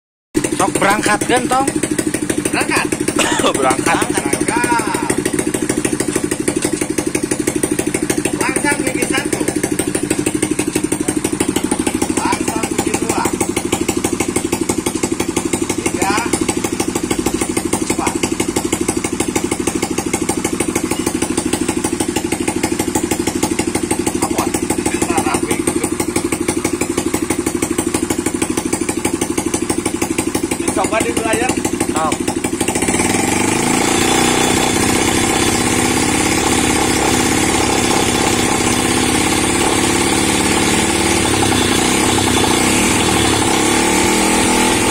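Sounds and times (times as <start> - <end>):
winch engine running steadily: 0.4 - 44.9.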